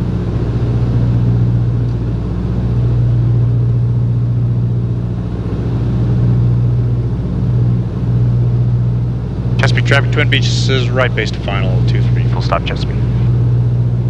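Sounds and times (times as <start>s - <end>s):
piston engines droning: 0.0s - 14.0s.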